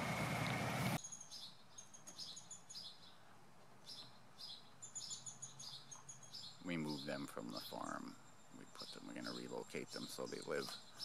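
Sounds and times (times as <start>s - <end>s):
faint high chirping birdsong: 1.0s - 11.0s.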